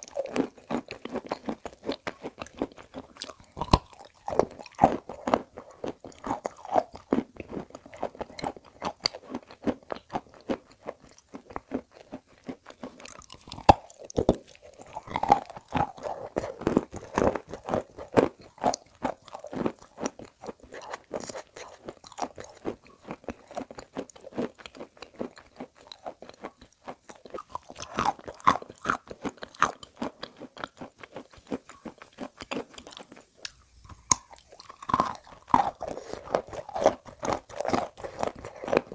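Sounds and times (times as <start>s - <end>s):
chalk crunching and chewing: 0.0s - 38.9s.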